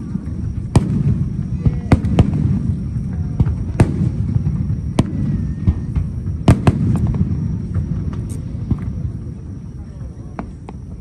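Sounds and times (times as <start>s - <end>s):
faint firework pops: 0.0s - 9.1s, 10.3s - 11.0s
continuous low rumble: 0.0s - 11.0s
firework shells bursting with bangs: 0.0s - 11.0s.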